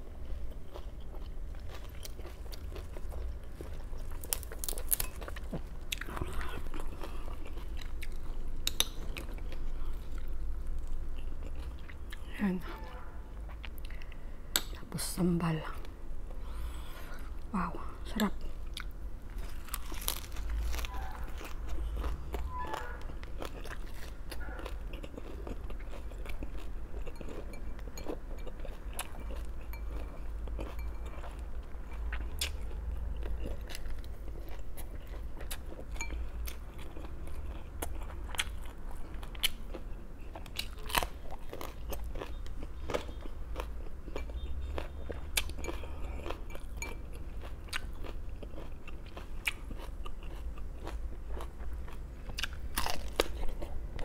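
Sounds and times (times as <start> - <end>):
person chewing crunchy vegetables: 0.0 - 12.5, 13.3 - 14.9, 15.8 - 54.0.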